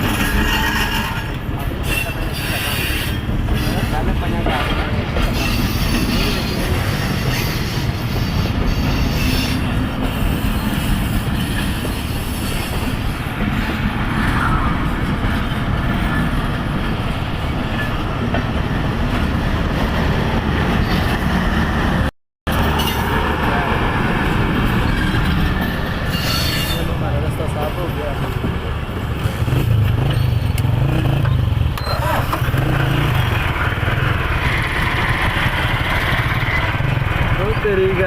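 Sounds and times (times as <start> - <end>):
train rumbling on rails: 0.0 - 38.0.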